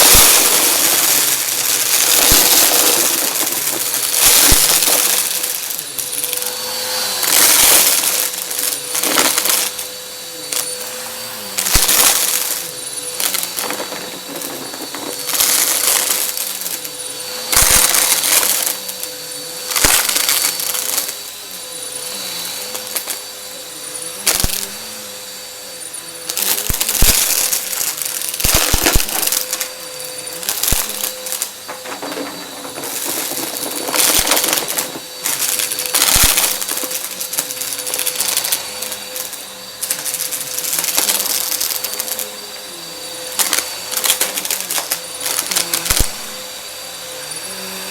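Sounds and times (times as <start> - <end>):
debris crackling up vacuum intake: 0.0 - 23.4, 26.2 - 47.9
vacuum cleaner motor whine: 0.0 - 47.9.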